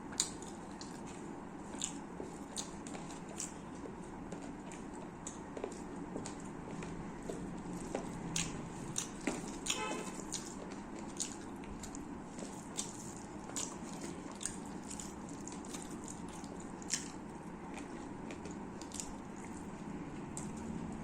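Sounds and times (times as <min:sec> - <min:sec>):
chewing: 0:00.1 - 0:21.0.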